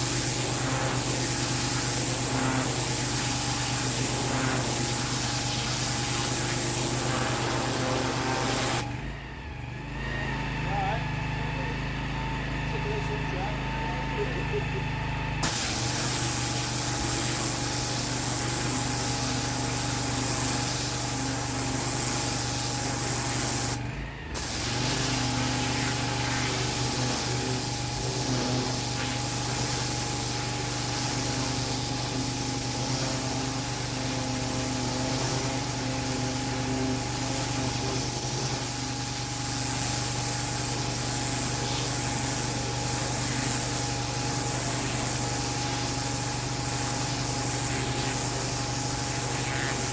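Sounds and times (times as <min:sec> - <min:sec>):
pressure washer spraying paving: 0:00.0 - 0:09.1, 0:15.4 - 0:49.9
pressure washer engine running: 0:00.0 - 0:49.9.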